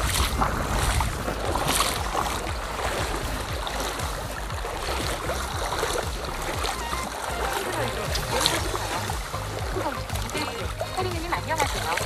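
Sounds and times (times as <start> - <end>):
water splashing around wading legs: 0.0 - 12.0
wind rumble on microphone: 0.0 - 12.0.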